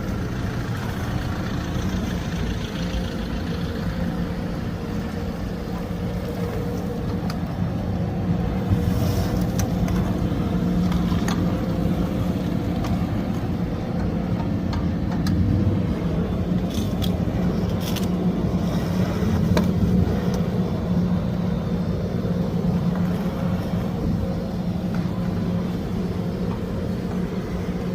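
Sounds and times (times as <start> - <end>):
road sweeper engine hum: 0.0 - 27.9.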